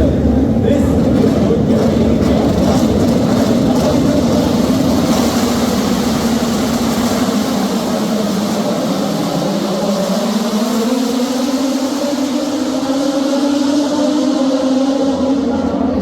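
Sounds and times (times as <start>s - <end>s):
deep engine rumble: 0.0s - 16.0s
race motorcycles at high revs: 0.0s - 16.0s.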